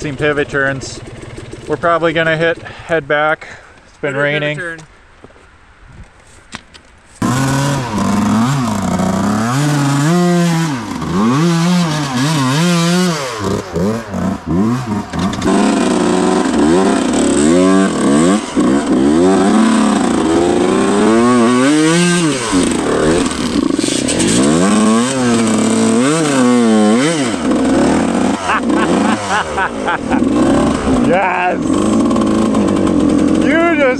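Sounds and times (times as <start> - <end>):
dirt bike engine revving: 0.0 - 3.1, 7.2 - 33.9.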